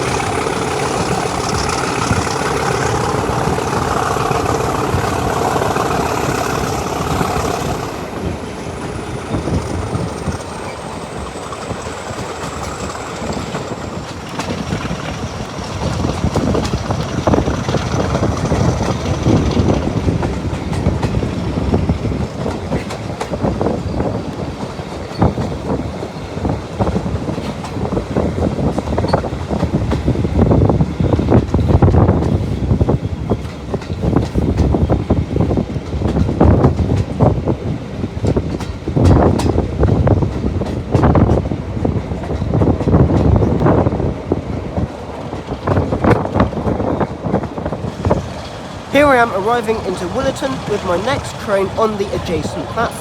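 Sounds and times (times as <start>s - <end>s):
train wheels clattering over rail joints: 0.0s - 48.9s
diesel locomotive engine whining: 0.0s - 53.0s.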